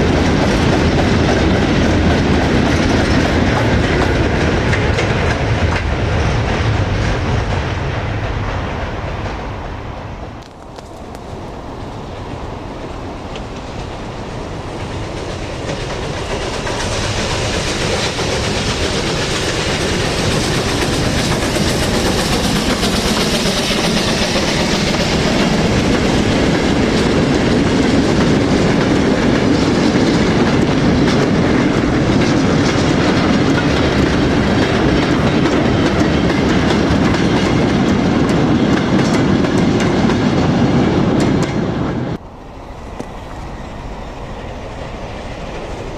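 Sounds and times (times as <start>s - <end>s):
wheels clattering over rail joints: 0.0s - 42.2s
steam train passing: 0.0s - 45.9s.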